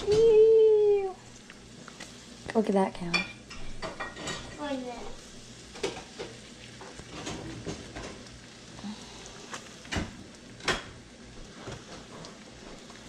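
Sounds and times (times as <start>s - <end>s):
faint frying hiss: 0.0s - 13.0s.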